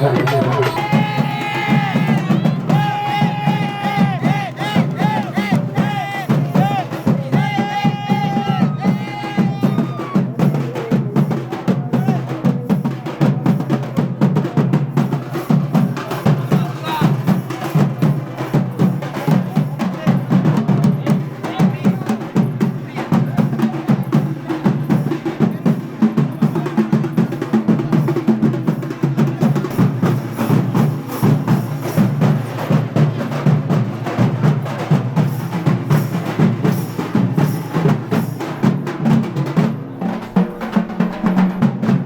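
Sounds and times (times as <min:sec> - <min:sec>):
fast dense drumming: 0:00.0 - 0:42.0.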